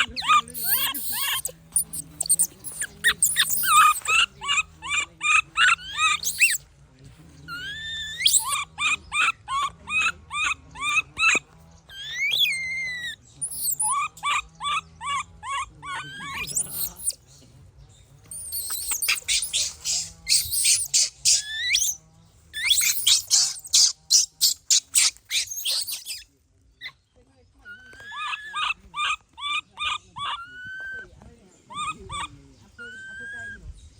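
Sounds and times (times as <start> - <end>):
baby monkey crying: 0.0 - 6.6, 7.5 - 17.2, 18.3 - 22.0, 22.6 - 26.2, 27.7 - 31.1, 31.7 - 33.6.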